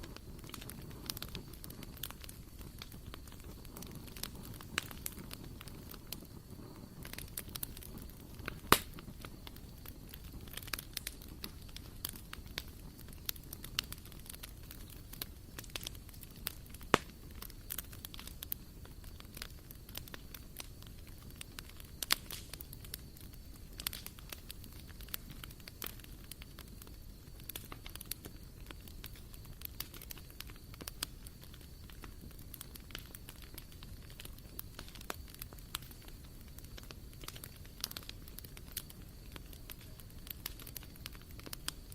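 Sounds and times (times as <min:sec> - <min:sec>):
fire popping and snapping: 0:00.0 - 0:41.9
wood fire crackling: 0:00.0 - 0:41.9.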